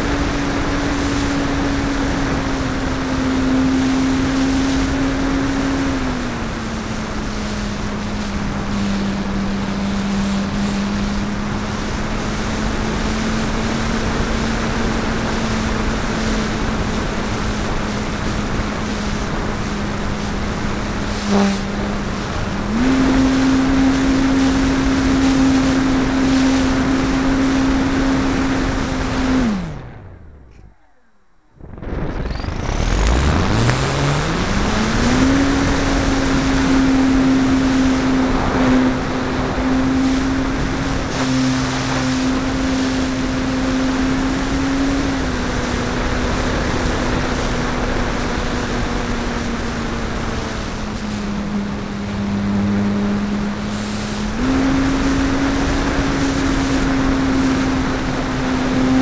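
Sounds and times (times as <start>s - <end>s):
electric motor and propeller whine: 0.0s - 59.0s
rushing air: 0.0s - 59.0s.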